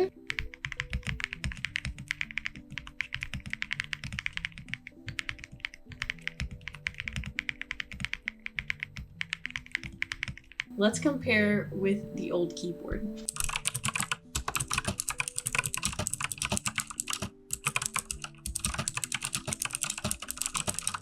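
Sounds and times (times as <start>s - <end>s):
soft background music: 0.0s - 21.0s
fast mechanical keyboard typing: 0.1s - 10.7s, 13.3s - 21.0s.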